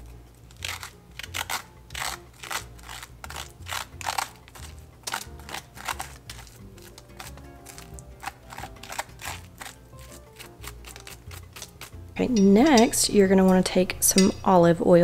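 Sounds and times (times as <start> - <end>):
metal spoon scraping squash: 0.0 - 14.9.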